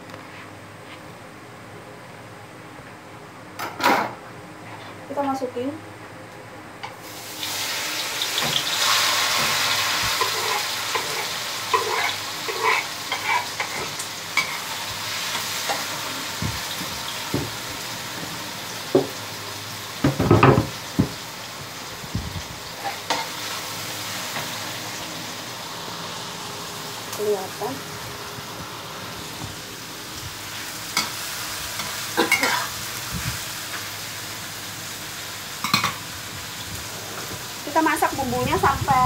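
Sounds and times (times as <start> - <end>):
food sizzling in hot oil: 6.9 - 39.0.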